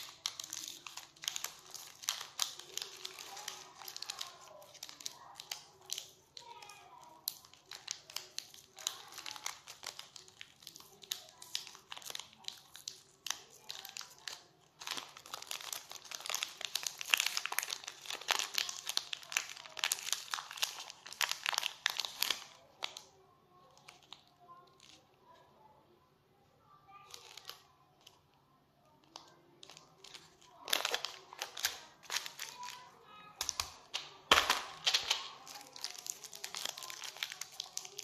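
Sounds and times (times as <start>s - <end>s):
candy wrapper crinkling: 0.0s - 25.3s, 26.9s - 28.3s, 28.9s - 38.0s.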